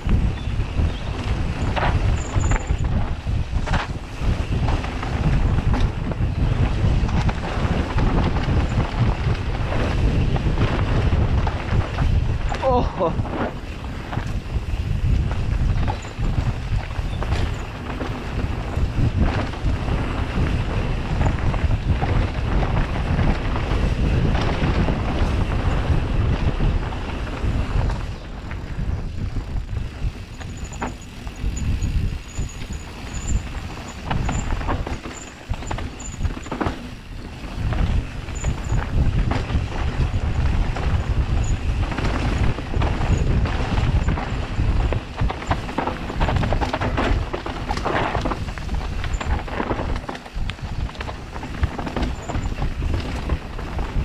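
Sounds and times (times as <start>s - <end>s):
bike tyres rumbling and rattling: 0.0s - 54.0s
wind buffeting microphone: 0.0s - 54.0s.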